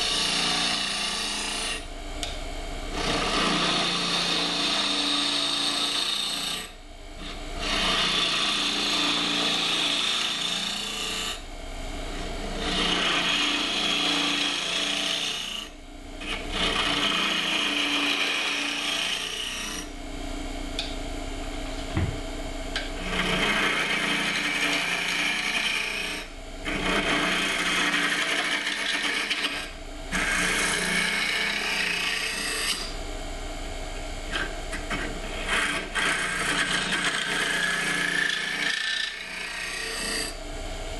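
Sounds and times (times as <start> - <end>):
tool cutting spinning wood: 0.0 - 19.9, 21.7 - 33.0, 34.3 - 40.5
wood lathe humming: 0.0 - 19.9, 21.6 - 33.0, 34.3 - 40.4.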